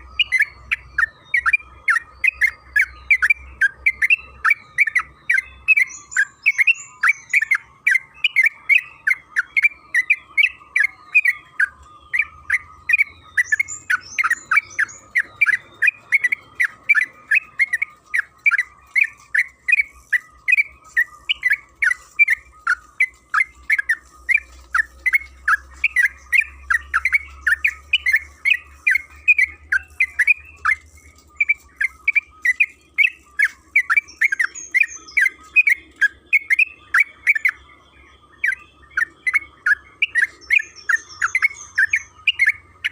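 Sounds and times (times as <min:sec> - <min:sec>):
bird singing chattering notes: 0:00.0 - 0:42.9.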